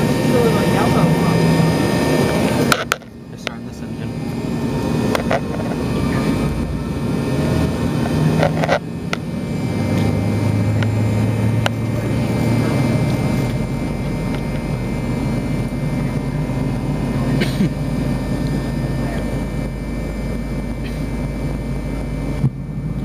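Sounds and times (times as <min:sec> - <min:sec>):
airliner cabin engine drone: 0:00.0 - 0:23.0.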